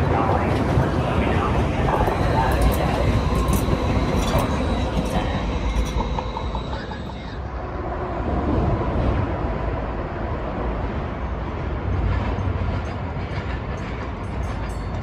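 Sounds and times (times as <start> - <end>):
train high whine: 0.0 - 15.0
train low rumble: 0.0 - 15.0.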